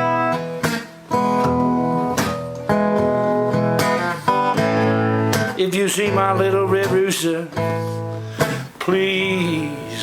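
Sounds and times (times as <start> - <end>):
acoustic guitar strumming blues: 0.0 - 10.0.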